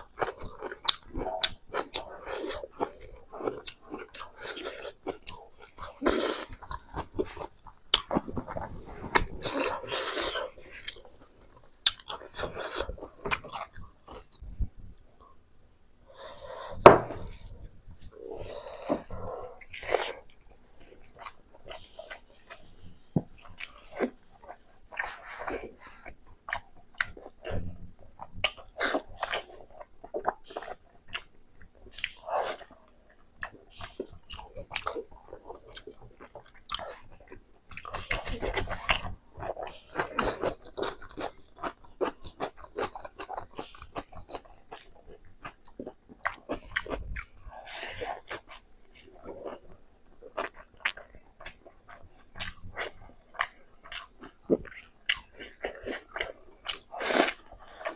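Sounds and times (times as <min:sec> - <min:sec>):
person chewing food: 0:00.0 - 0:15.4, 0:16.1 - 0:57.9.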